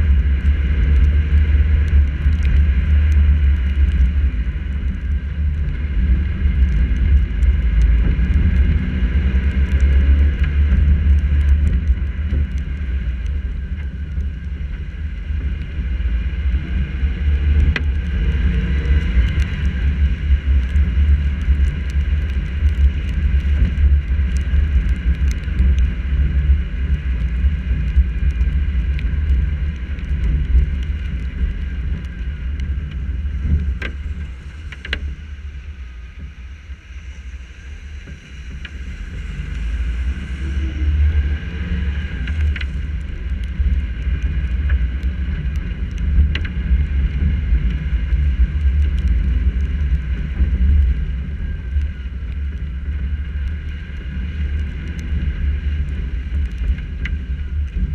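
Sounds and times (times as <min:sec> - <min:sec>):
car engine and road rumble: 0:00.0 - 0:57.9
raindrops ticking on camera: 0:00.0 - 0:57.9.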